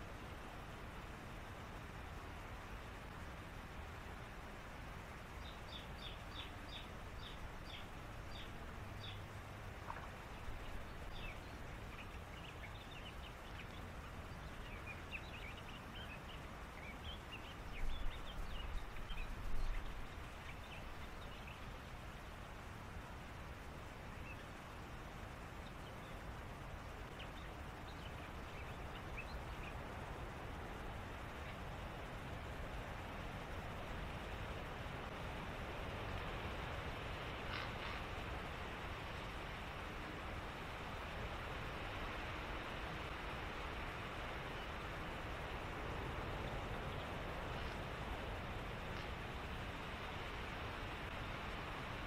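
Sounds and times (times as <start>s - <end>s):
background hiss: 0.0s - 52.0s.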